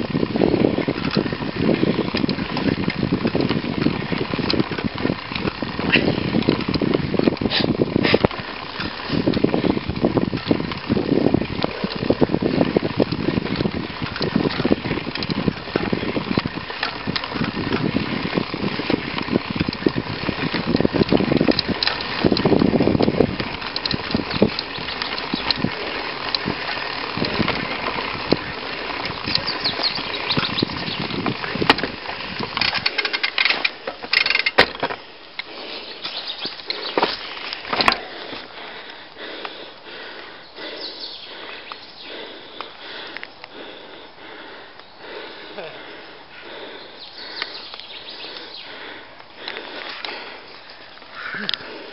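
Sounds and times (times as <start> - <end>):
bike clicks and rattles: 0.0 - 51.9
wind buffeting microphone: 0.0 - 51.9
tyres crunching on gravel: 0.4 - 39.8, 44.8 - 51.9.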